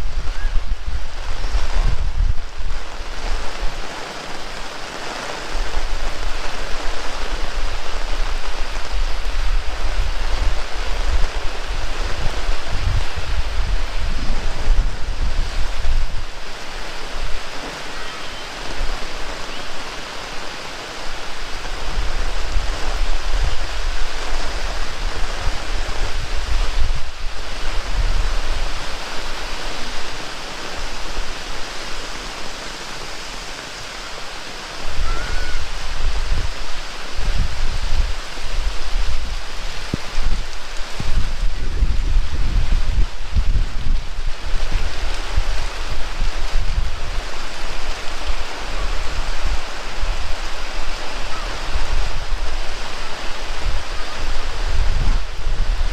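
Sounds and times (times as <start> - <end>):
heavy rain pouring: 0.0 - 55.9
wind gusts buffeting microphone: 0.0 - 55.9.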